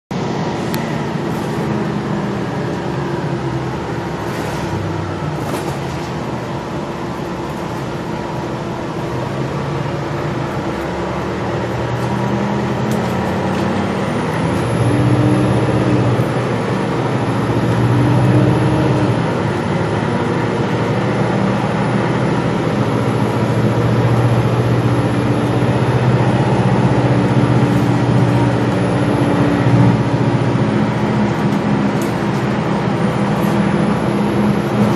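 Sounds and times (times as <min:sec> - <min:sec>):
bus engine accelerating: 0:00.1 - 0:34.9
road noise: 0:00.1 - 0:34.9.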